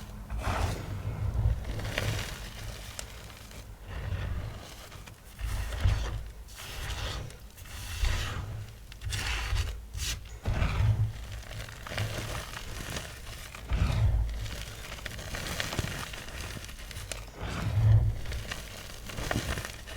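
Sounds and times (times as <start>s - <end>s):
chalk blocks being crushed: 1.6s - 19.9s.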